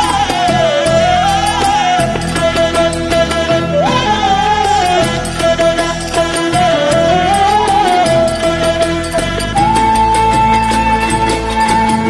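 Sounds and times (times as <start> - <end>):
arabesque music: 0.0 - 12.0.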